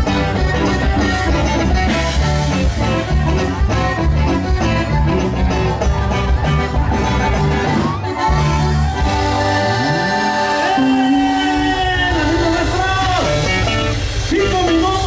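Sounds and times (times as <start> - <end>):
live band playing: 0.0 - 15.0
steady bass: 0.0 - 15.0.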